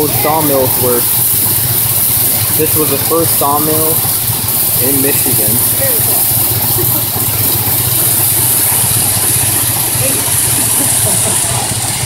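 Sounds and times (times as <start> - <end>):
rapid even rattle: 0.0 - 12.0
sawmill machinery rumble: 0.0 - 12.0
steady hiss: 0.0 - 12.0.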